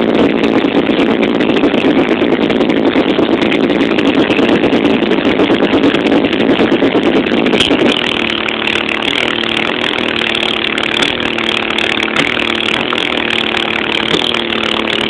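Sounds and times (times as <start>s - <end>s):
bass-heavy music: 0.0s - 15.0s
car subwoofers distorted bass buzz: 0.0s - 15.0s.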